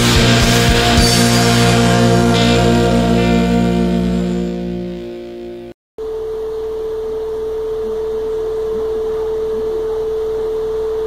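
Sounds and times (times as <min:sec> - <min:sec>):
steady electronic tone: 0:00.0 - 0:11.0.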